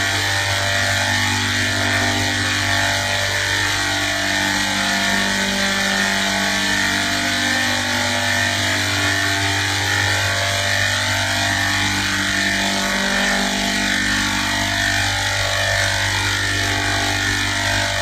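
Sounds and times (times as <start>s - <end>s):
machine drone: 0.0s - 18.0s.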